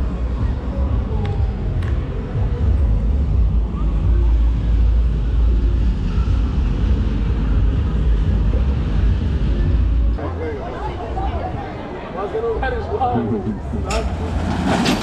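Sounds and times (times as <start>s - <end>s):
cars passing: 0.0s - 15.0s
traffic rumble: 0.0s - 15.0s.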